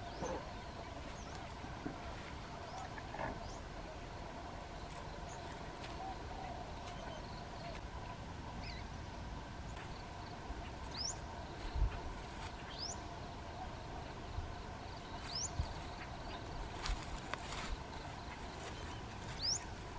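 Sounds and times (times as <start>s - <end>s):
faint outdoor background: 0.0s - 19.9s.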